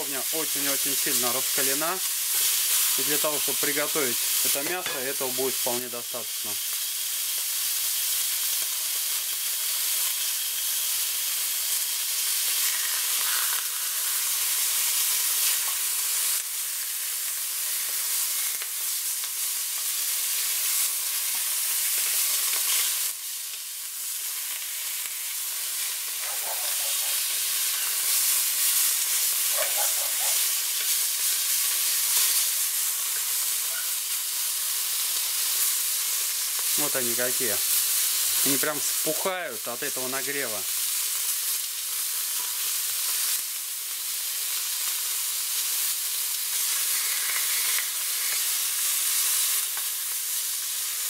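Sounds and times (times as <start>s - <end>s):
steaks sizzling in a pan: 0.0s - 51.0s.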